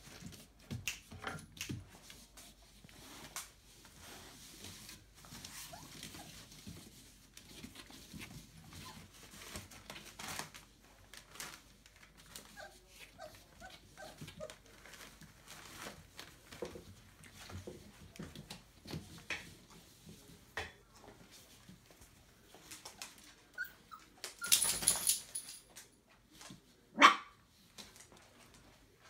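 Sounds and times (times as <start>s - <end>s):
faint rustling and shuffling: 0.0s - 29.0s.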